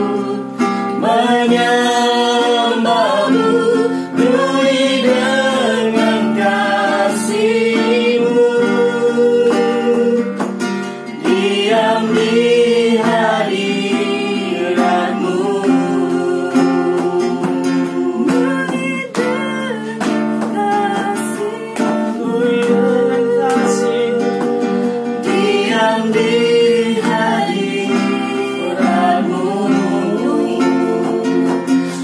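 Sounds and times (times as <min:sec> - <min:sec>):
group singing worship song: 0:00.0 - 0:32.0
strummed acoustic guitar: 0:00.0 - 0:32.0.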